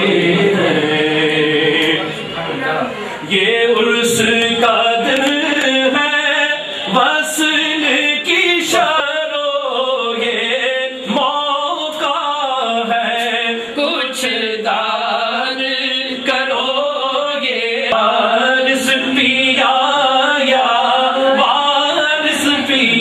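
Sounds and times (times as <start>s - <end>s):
voices singing devotional song: 0.0s - 2.4s, 3.2s - 23.0s.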